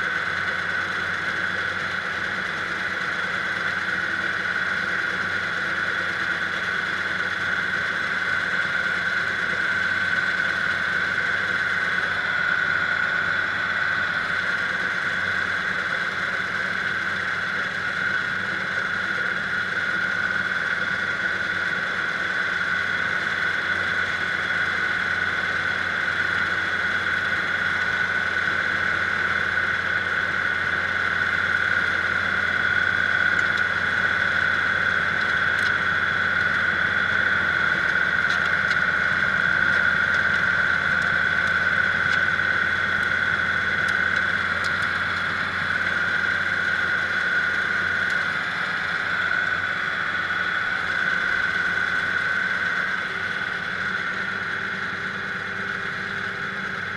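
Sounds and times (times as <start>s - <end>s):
diesel engine running: 0.0s - 56.9s
high-pitched whine: 0.0s - 56.9s.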